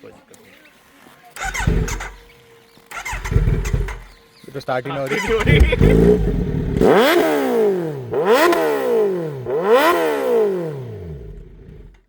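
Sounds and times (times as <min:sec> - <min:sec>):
motorcycle engine revving: 0:01.4 - 0:12.0.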